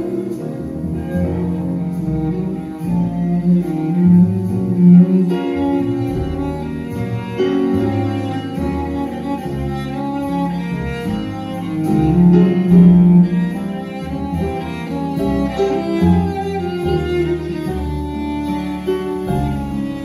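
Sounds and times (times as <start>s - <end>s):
bowed cello: 0.0s - 20.0s
small band playing live: 0.0s - 20.0s.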